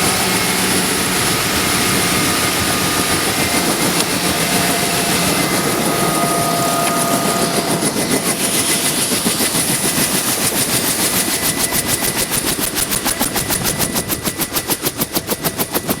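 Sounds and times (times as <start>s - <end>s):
helicopter rotor blade slap: 0.0s - 16.0s
helicopter turbine whine: 0.0s - 16.0s.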